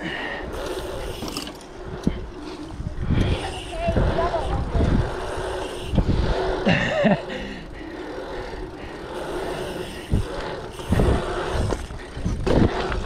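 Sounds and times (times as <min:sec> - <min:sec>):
bicycle tyres rolling on asphalt: 0:00.0 - 0:13.0
wind buffeting microphone: 0:00.4 - 0:13.0.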